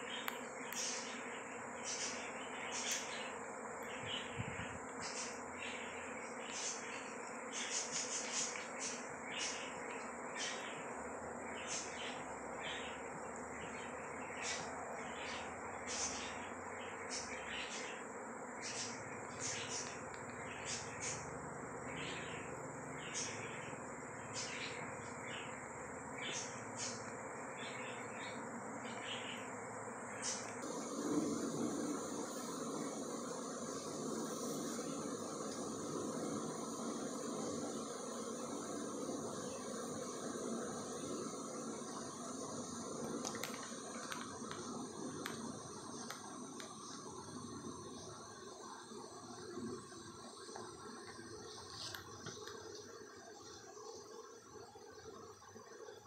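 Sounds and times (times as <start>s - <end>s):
bee swarm buzzing: 0.0s - 56.0s.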